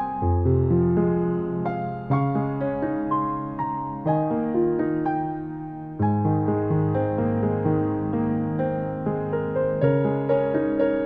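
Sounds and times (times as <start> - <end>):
gentle keyboard melody: 0.0 - 11.0.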